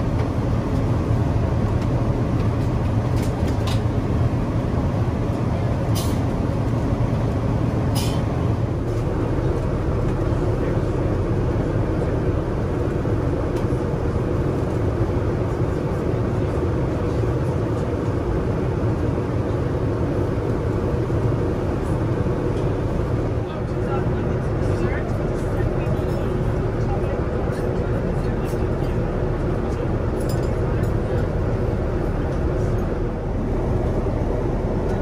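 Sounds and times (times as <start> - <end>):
airplane cabin engine hum: 0.0 - 35.0.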